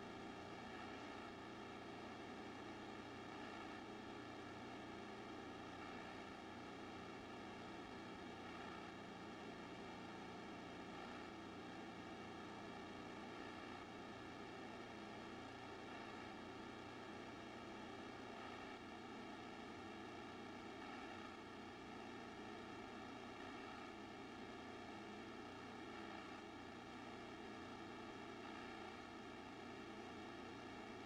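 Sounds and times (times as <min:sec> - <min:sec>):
faint steady tone: 0:00.0 - 0:31.0.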